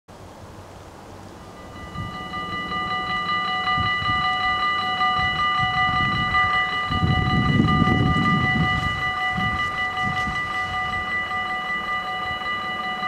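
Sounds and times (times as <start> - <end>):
low rumble of barrier arms: 0.2 - 13.0
level crossing bells ringing: 1.5 - 13.0.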